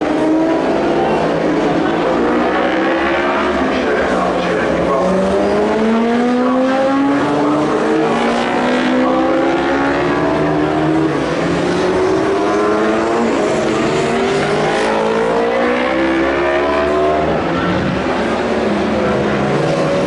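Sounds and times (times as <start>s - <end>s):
racing motorcycle engines accelerating: 0.0s - 20.0s.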